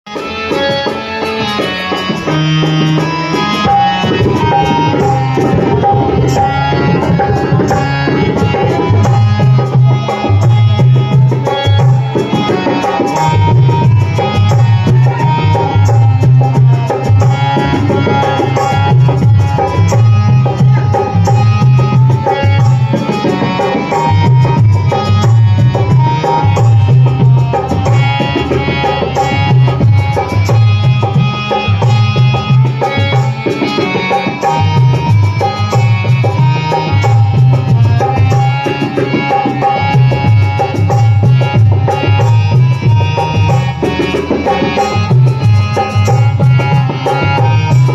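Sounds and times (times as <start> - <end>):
devotional instrumental music: 0.1 - 47.9.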